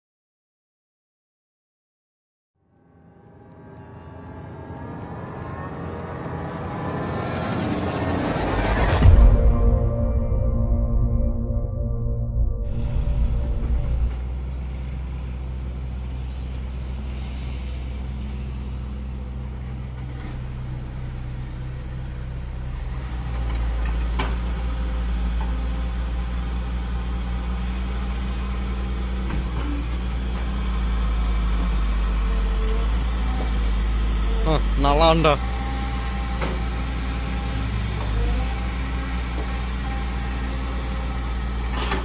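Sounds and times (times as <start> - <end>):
excavator diesel engine running: 3.7 - 42.0.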